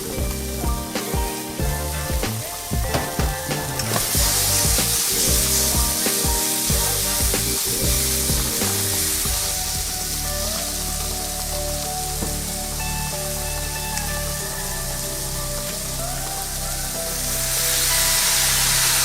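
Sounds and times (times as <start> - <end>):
background music: 0.0 - 19.0
food sizzling in a frying pan: 0.0 - 19.0.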